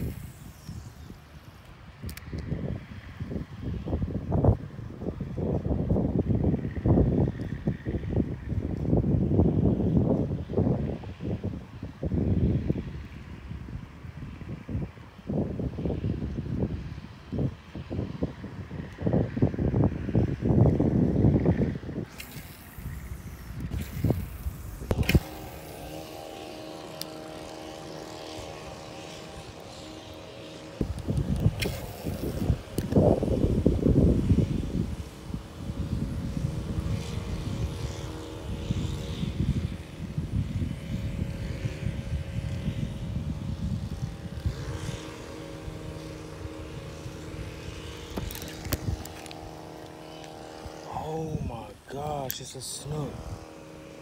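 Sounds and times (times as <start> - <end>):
distant engine droning: 0.0 - 54.0
wind buffeting microphone: 0.0 - 54.0.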